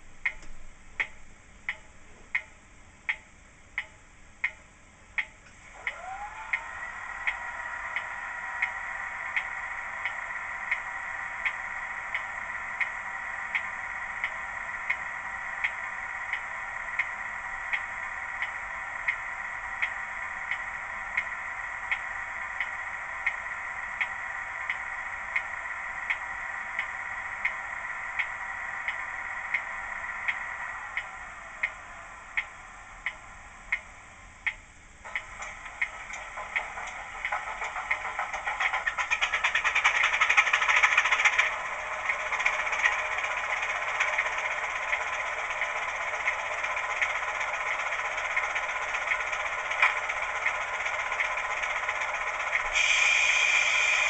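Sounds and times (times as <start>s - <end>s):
steady hum with sharp ticks: 0.0s - 54.0s
diesel engine sound: 5.0s - 54.0s.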